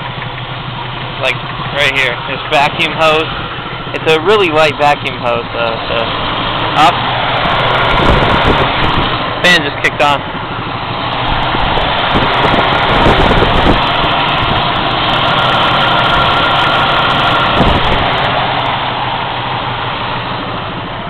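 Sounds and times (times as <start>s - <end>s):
car engine idling choppily: 0.0s - 21.0s
radiator cooling fan running: 0.0s - 21.0s.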